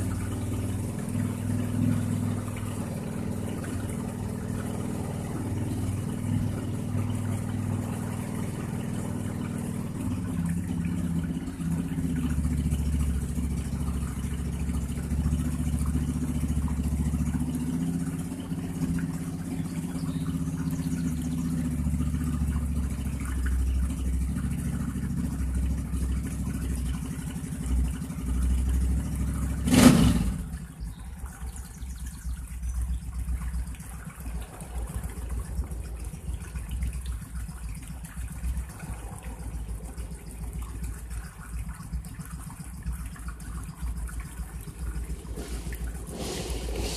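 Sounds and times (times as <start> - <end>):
motorcycle engine idling: 0.0 - 46.9.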